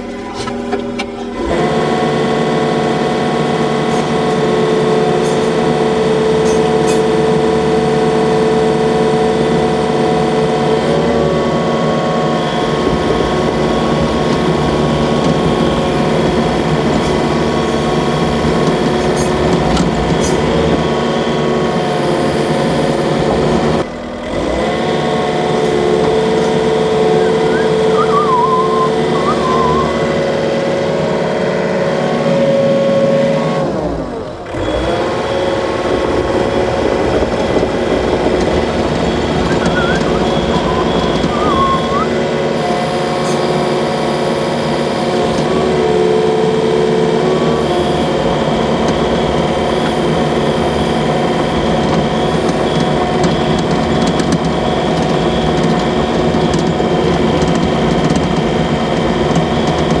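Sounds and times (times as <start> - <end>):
engine running: 0.0 - 60.0.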